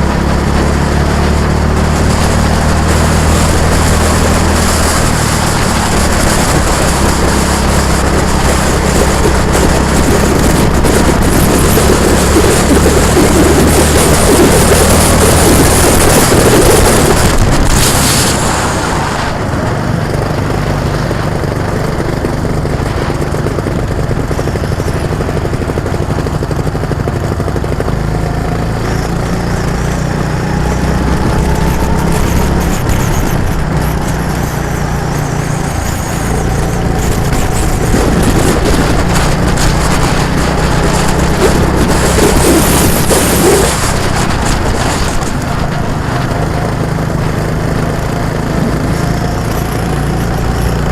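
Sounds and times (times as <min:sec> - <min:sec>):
gusts of noise: 0:00.0 - 0:25.9, 0:27.6 - 0:50.9
engine droning: 0:00.0 - 0:50.9.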